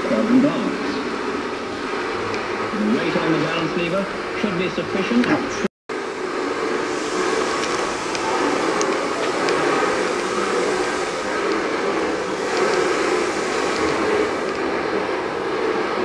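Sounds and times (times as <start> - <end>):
indoor engine hall noise: 0.0 - 16.0.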